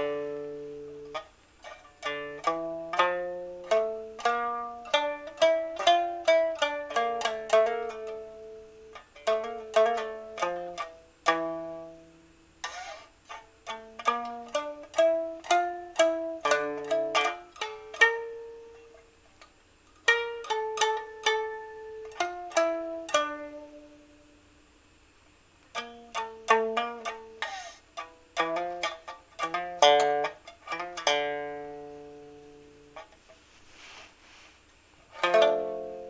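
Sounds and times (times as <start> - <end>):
string instrument improvising: 0.0 - 24.0, 25.6 - 36.0.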